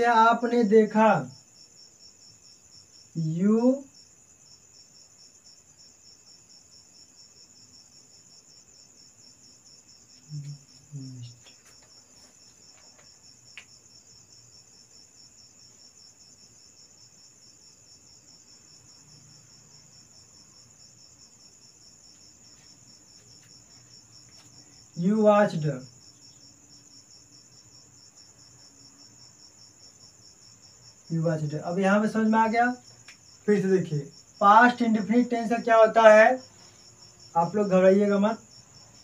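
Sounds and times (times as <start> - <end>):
cricket chirping: 0.0 - 39.0.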